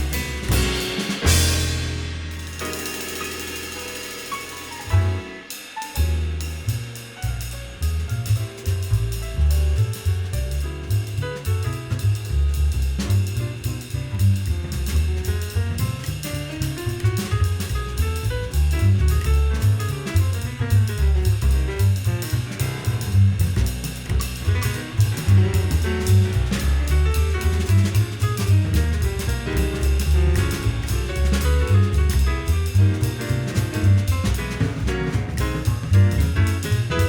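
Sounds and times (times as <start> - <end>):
acoustic piano: 0.0 - 37.0
drum kit with busy cymbals: 0.0 - 37.0
upright bass: 0.0 - 37.0.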